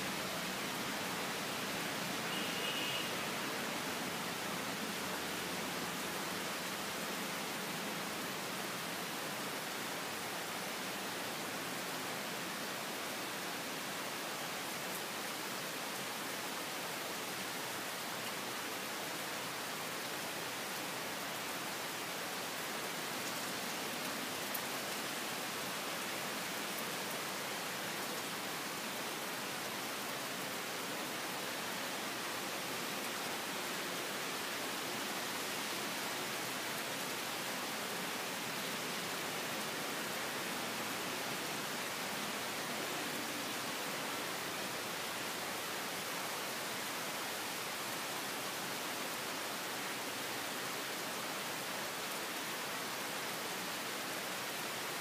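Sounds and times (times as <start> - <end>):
rain falling on palms and grass: 0.0 - 55.0.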